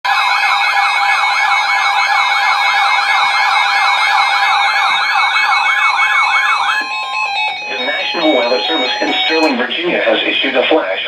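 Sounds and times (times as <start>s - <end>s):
siren-style alert wails: 0.1s - 10.1s
steady electronic tones: 1.1s - 10.5s.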